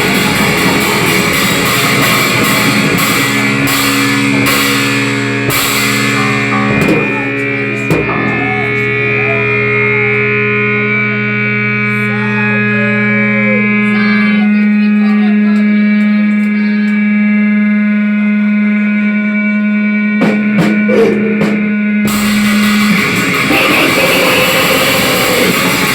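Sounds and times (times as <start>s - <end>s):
rock music with distorted guitar: 0.0s - 17.8s, 19.8s - 25.9s
held guitar chord ringing: 0.0s - 25.9s.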